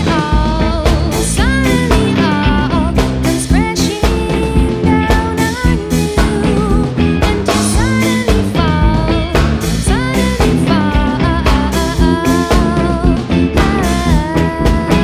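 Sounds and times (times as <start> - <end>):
drum kit beat: 0.0 - 15.0
electric guitars: 0.0 - 15.0
sliding lead guitar melody: 0.0 - 15.0.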